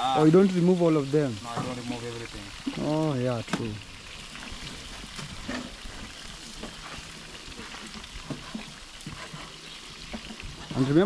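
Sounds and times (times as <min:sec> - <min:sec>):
meat sizzling in hot oil: 0:00.0 - 0:11.0
oil popping and crackling: 0:00.0 - 0:11.0.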